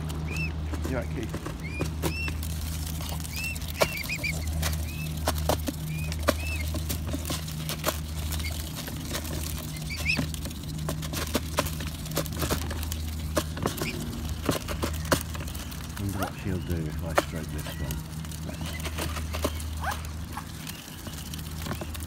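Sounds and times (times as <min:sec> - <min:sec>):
bills pecking grain and plastic: 0:00.0 - 0:22.0
cygnets peeping: 0:00.0 - 0:22.0
steady low drone: 0:00.0 - 0:22.0.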